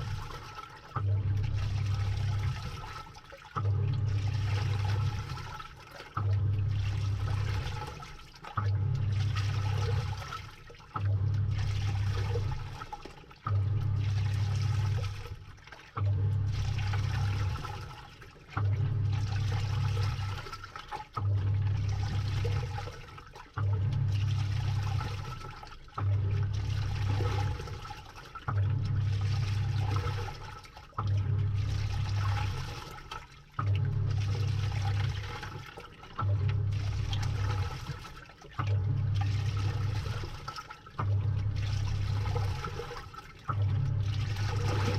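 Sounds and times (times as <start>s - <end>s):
washing machine motor humming: 0.0s - 44.9s
water and clothes sloshing: 0.0s - 44.9s.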